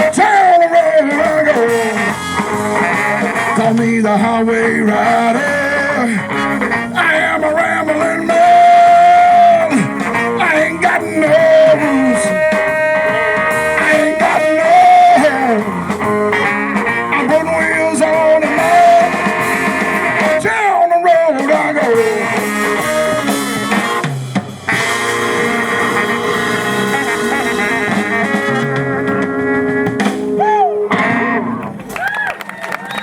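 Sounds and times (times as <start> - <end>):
sliding lead guitar lines: 0.0 - 32.0
blues band playing: 0.0 - 33.0.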